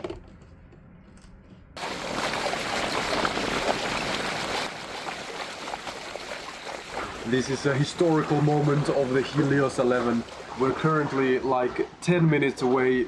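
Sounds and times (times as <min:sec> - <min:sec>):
water rushing along boat hull: 0:01.8 - 0:13.0.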